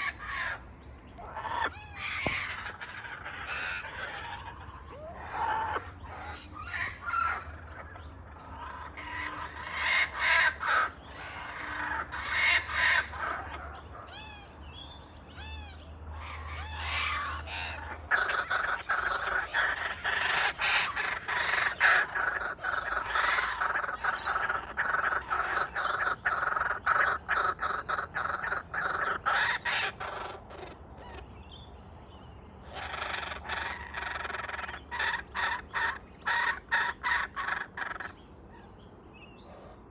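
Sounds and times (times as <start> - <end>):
kookaburras calling: 0.0 - 39.9.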